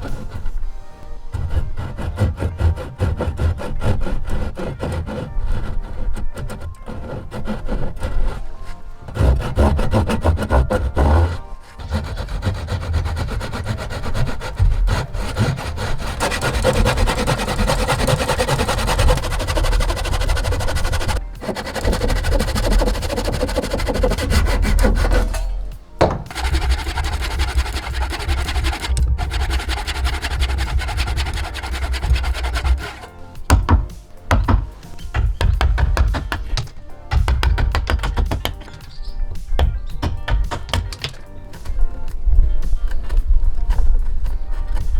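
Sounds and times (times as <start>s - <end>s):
tool rasping against wood: 0.0s - 41.8s
background music: 0.0s - 44.9s.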